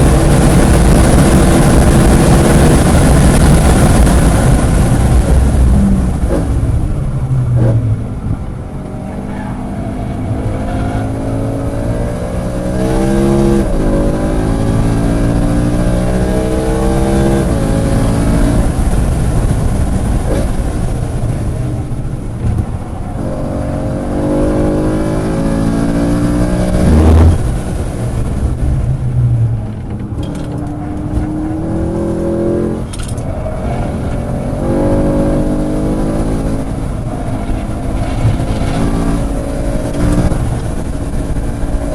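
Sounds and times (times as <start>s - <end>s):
car engine accelerating hard: 0.0s - 41.9s.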